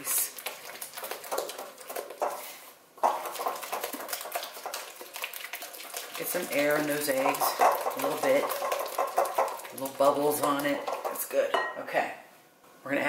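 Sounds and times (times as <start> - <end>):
spatula stirring in glass bowl: 0.2 - 11.8.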